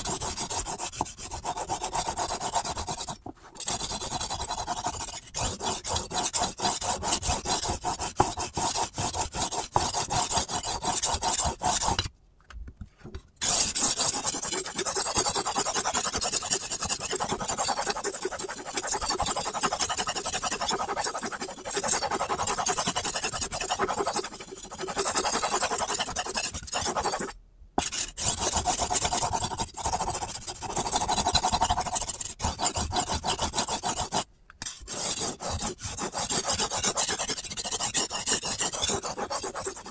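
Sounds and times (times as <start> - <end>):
knife rasping on sharpening stone: 0.0 - 12.1, 13.4 - 39.9.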